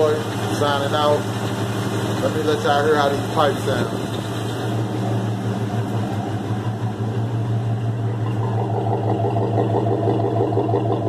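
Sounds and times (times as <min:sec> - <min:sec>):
car engine exhaust idling: 0:00.0 - 0:11.0.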